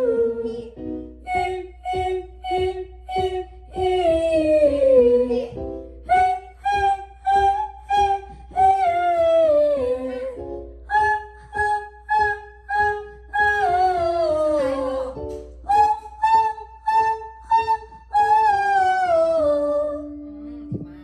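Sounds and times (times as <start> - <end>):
keyboard chords: 0.0 - 21.0
person singing vocal exercise: 0.0 - 21.0.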